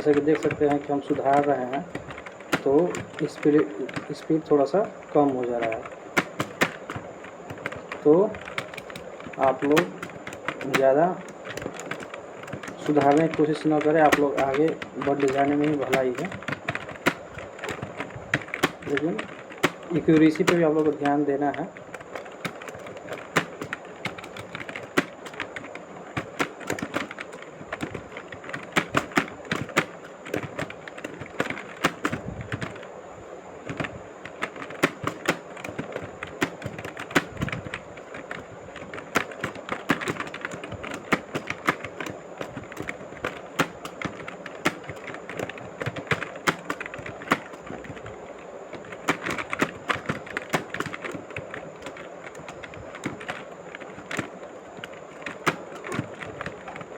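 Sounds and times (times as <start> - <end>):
keyboard typing clicks: 0.0 - 32.9, 33.6 - 56.9.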